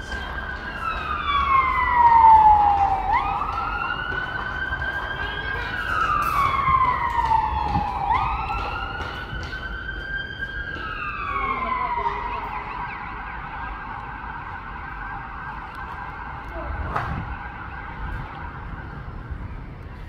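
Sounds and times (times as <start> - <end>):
emergency siren wailing: 0.0 - 20.0.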